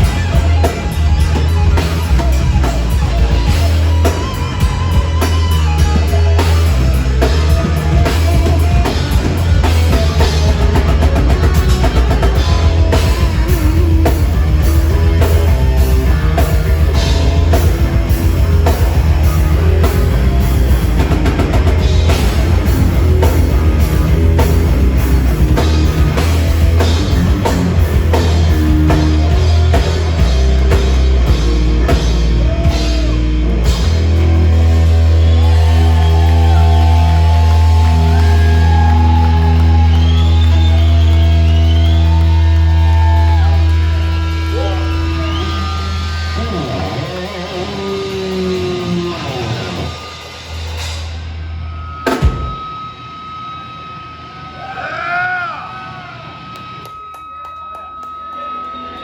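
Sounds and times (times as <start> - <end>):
heavy metal band playing: 0.0 - 56.9.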